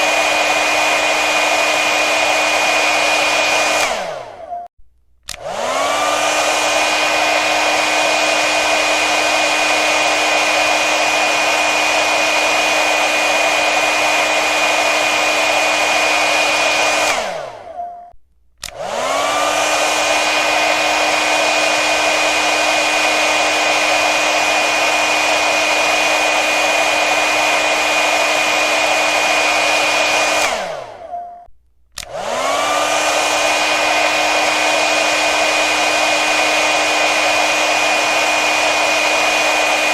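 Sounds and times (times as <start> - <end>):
hair dryer blowing: 0.0 - 4.6, 5.2 - 17.8, 18.6 - 31.3, 32.0 - 39.9.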